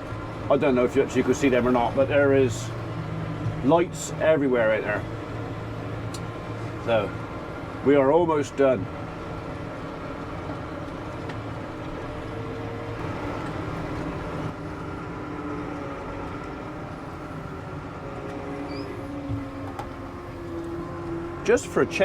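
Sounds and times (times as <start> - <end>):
tractor engine drone from cab: 0.0 - 22.0.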